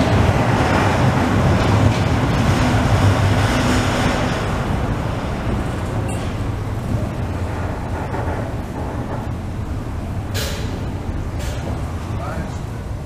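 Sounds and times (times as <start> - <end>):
funicular car rumbling on track: 0.0 - 13.0.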